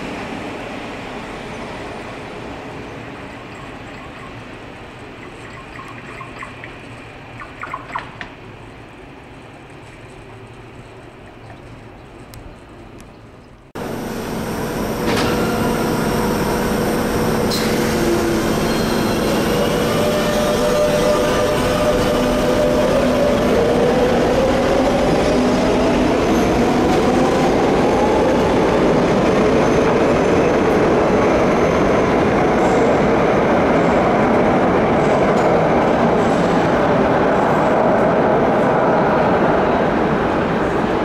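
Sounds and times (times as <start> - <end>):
wheels rumbling on rails: 8.1 - 41.0.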